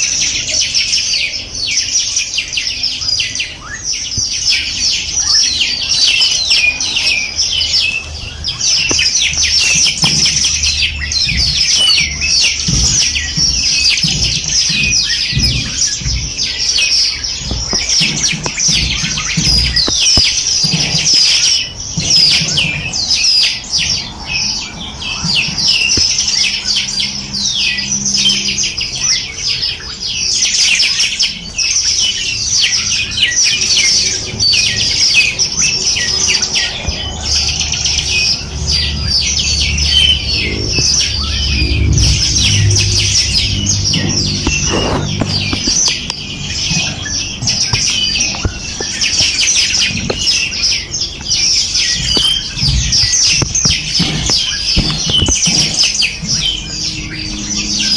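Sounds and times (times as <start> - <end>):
songbirds chirping and twittering: 0.0 - 57.9.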